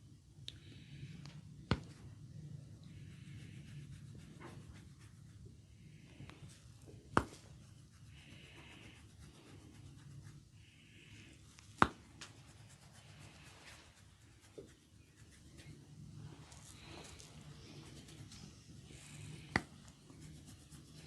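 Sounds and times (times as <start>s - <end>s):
hands rubbing scalp: 3.1s - 5.5s, 6.2s - 21.0s.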